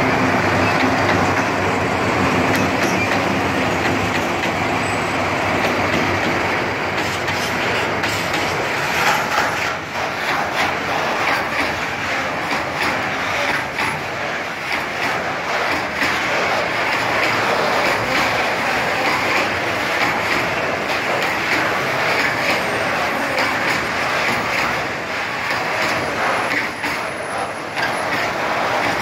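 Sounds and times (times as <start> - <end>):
diesel locomotive passing: 0.0 - 29.0
wheels clacking over rail joints: 0.0 - 29.0.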